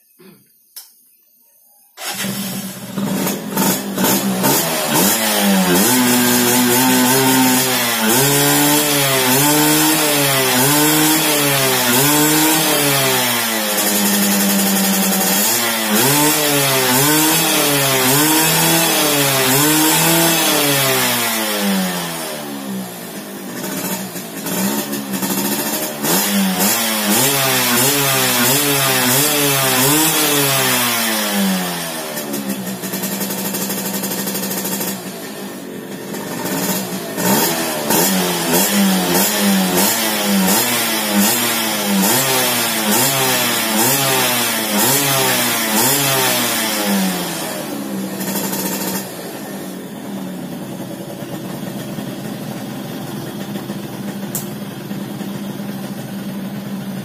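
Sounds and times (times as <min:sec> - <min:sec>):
two-stroke engine revving: 0:02.0 - 0:57.0.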